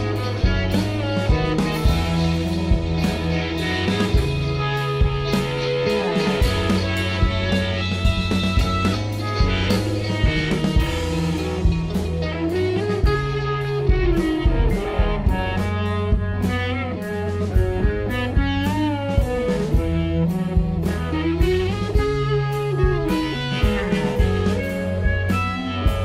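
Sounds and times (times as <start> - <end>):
drum kit: 0.0 - 26.0
electric guitar with bending notes: 0.0 - 26.0
sustained bass: 0.0 - 26.0.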